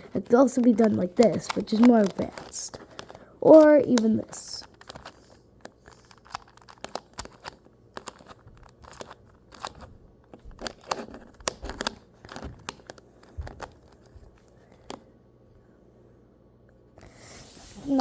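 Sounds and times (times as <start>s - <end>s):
puzzle cube clicking and scraping: 0.0s - 15.0s.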